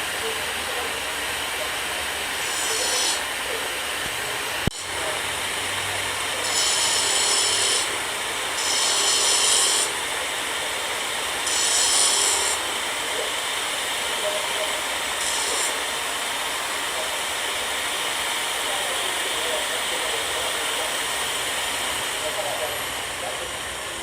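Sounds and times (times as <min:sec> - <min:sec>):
saw cutting metal: 0:00.0 - 0:24.0.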